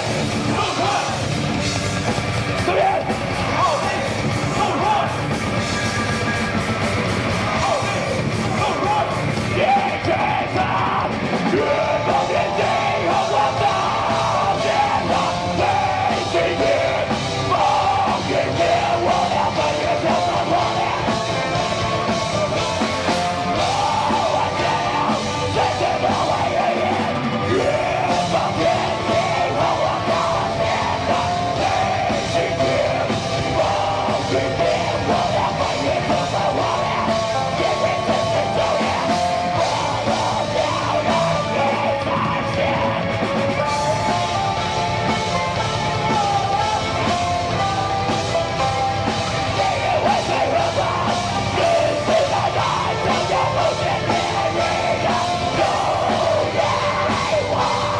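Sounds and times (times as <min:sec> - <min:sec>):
heavy metal band playing: 0:00.0 - 0:57.9
yelled vocals: 0:00.0 - 0:57.9.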